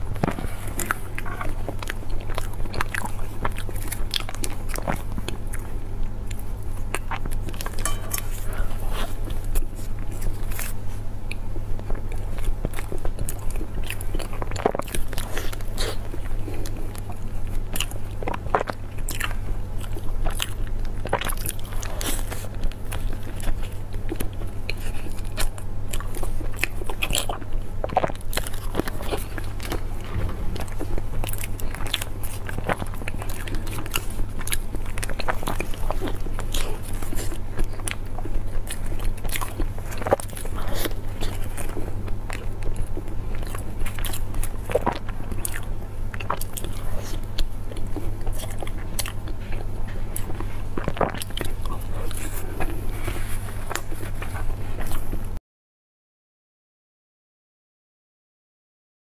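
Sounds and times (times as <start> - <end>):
chocolate crunching: 0.0 - 55.1
steady low hum: 0.0 - 55.4.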